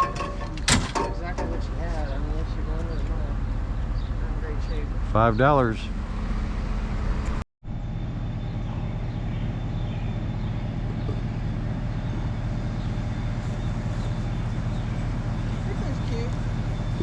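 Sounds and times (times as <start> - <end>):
road noise: 0.0 - 17.0
truck engine running: 0.0 - 17.0.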